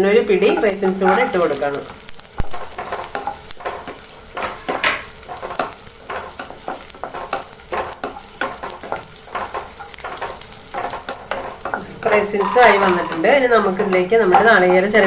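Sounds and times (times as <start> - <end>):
nuts sizzling in hot fat: 0.0 - 15.0
wooden spatula scraping a pan: 0.4 - 15.0.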